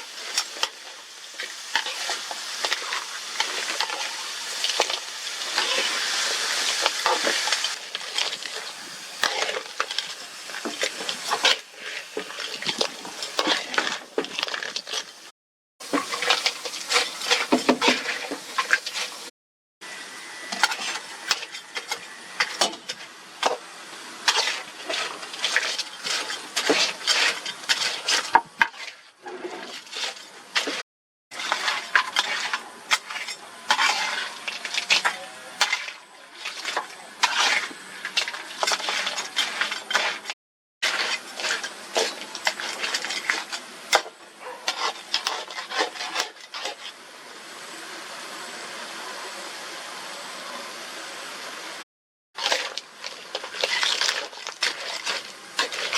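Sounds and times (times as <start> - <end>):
crab sizzling in a pan: 0.0 - 51.8, 52.4 - 55.9.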